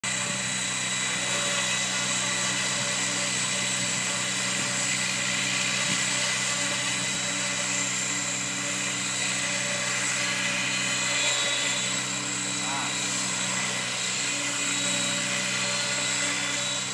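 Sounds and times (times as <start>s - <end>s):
model helicopter rotors whining: 0.0s - 16.9s.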